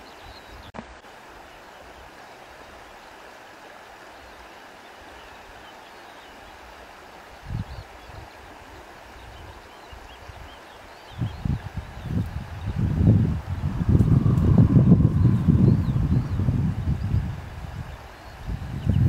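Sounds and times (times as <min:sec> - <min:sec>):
stream flowing: 0:00.0 - 0:18.9.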